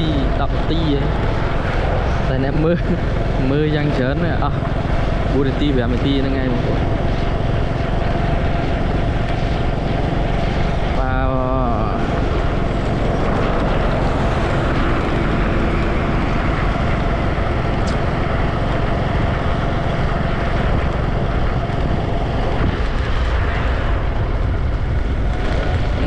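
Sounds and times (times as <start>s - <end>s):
loud vehicle running noise: 0.0s - 26.0s.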